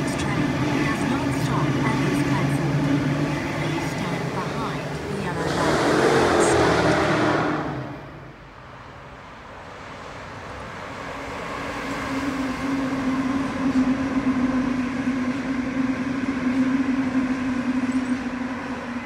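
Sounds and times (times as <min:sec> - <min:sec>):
electric train running into station: 0:00.0 - 0:19.0.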